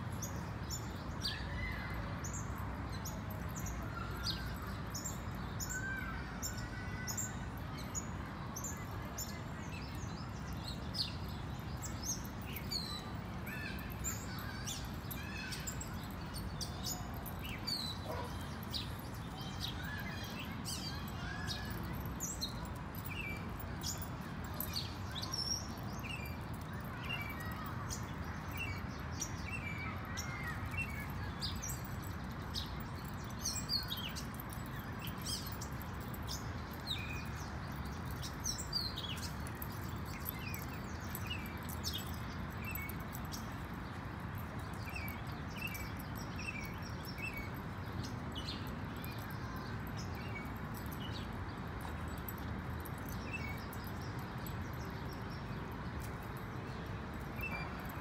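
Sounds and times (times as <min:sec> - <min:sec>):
small birds chirping: 0:00.1 - 0:58.0.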